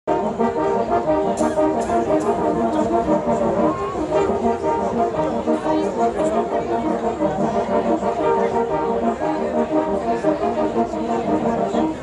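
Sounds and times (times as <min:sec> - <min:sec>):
brass horns playing chords: 0:00.1 - 0:12.0.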